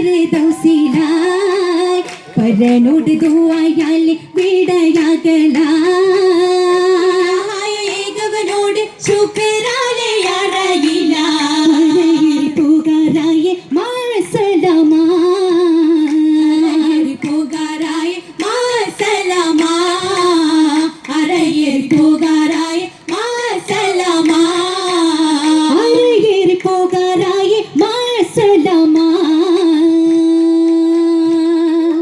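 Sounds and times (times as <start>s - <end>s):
women singing: 0.0s - 32.0s.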